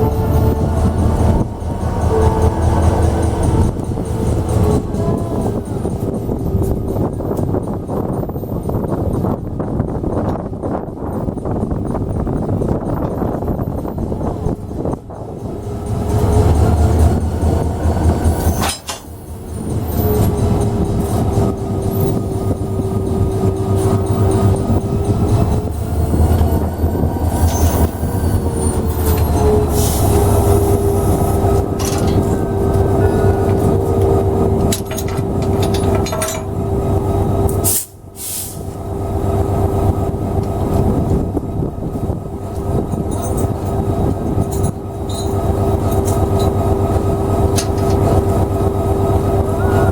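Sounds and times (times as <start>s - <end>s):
locomotive engine rumble: 0.0s - 49.9s
railcars clanking: 0.0s - 49.9s.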